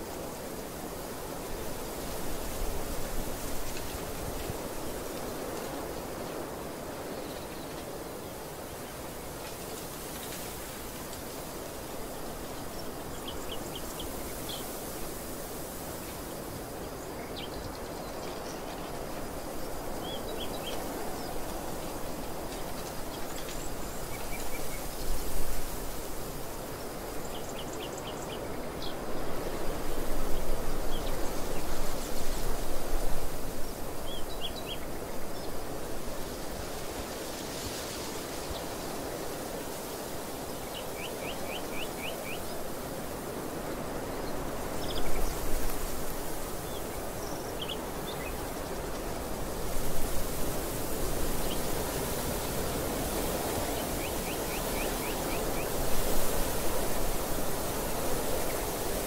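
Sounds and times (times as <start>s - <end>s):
wind across a field: 0.0s - 59.0s.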